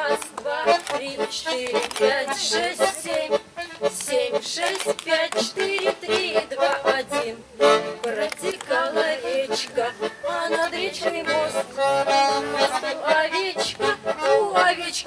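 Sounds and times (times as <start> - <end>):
accordion tune: 0.0 - 15.0.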